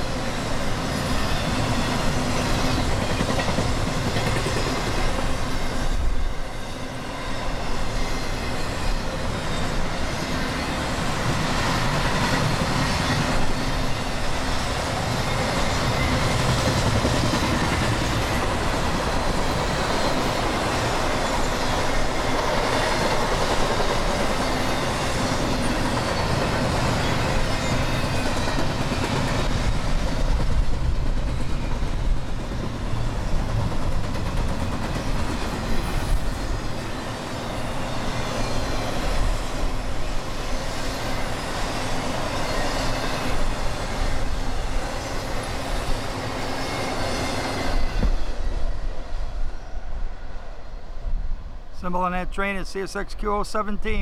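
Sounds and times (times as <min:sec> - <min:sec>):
freight train cars rolling: 0:00.0 - 0:50.4.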